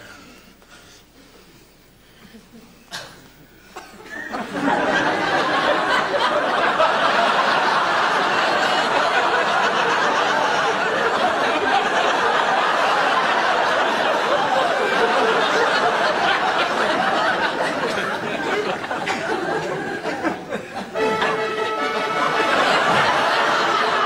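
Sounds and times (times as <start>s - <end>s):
audience laughing: 4.0s - 24.0s.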